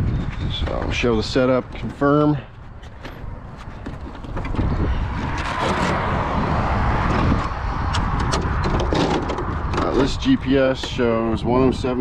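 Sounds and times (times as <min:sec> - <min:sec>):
vehicle tyre and wind noise: 0:00.0 - 0:12.0.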